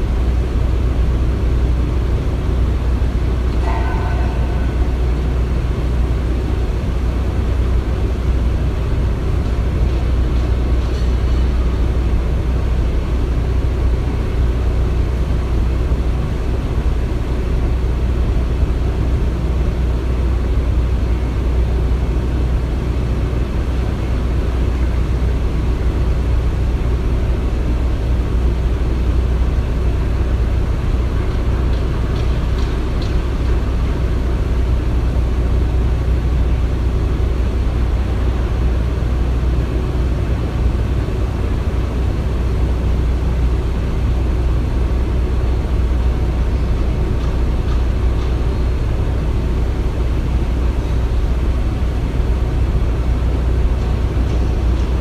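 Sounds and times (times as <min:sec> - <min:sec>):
machinery rumbling: 0:00.0 - 0:55.0.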